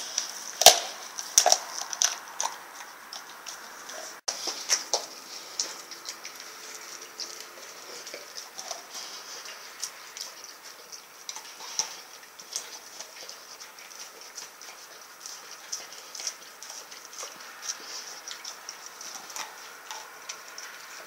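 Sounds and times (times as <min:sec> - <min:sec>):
dog gnawing and crunching bone: 0:00.0 - 0:21.0
dog licking: 0:00.0 - 0:21.0.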